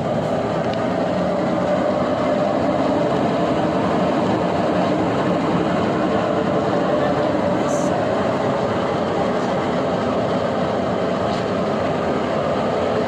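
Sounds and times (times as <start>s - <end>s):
washing machine rumbling: 0.0s - 13.0s.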